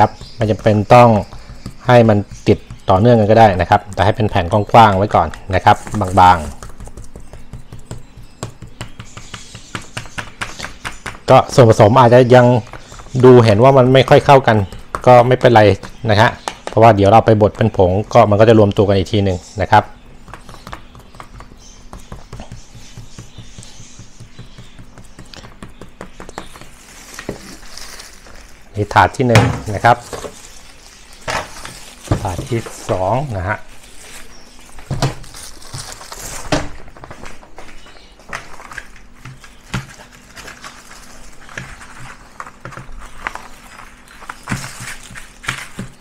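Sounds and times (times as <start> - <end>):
baking paper rustling and crinkling: 0.0 - 17.4, 20.4 - 46.0.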